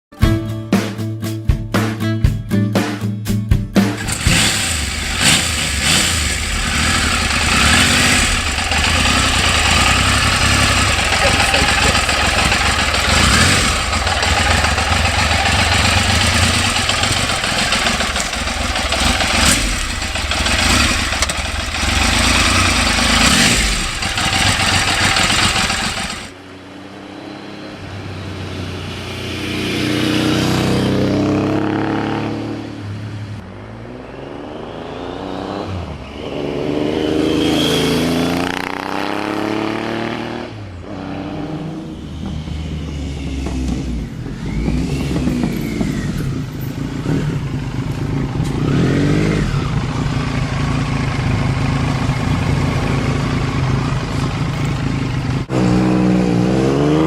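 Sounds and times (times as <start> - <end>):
motorcycle engine running close: 4.0 - 27.2, 27.8 - 32.6, 33.6 - 57.0
motorcycle passing by: 4.0 - 57.0.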